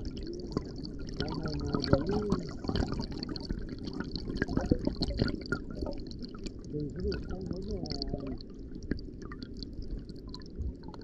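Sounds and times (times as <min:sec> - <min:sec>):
small underwater clicks and crackles: 0:00.0 - 0:11.0
underwater rumble of moving water: 0:00.0 - 0:11.0.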